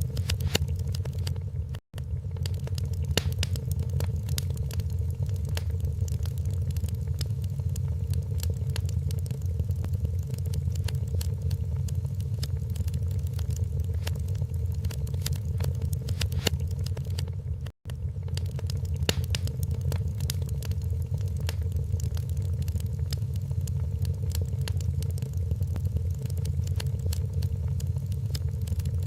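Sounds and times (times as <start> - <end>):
low rumble: 0.0 - 29.0
wood fire crackling and popping: 0.0 - 29.0.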